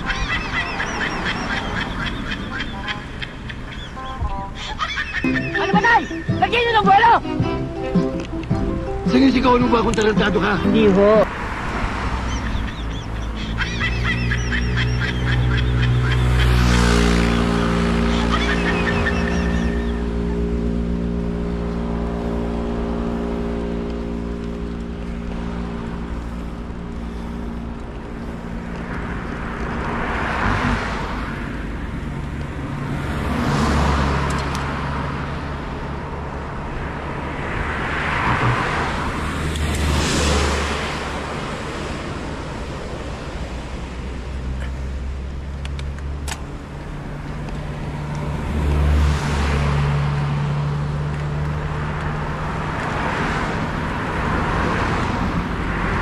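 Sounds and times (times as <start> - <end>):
motor vehicles passing: 0.0 - 56.0.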